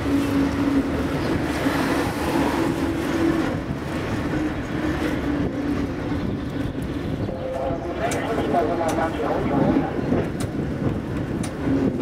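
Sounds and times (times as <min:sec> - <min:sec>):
tram wheels rolling on rails: 0:00.0 - 0:12.0.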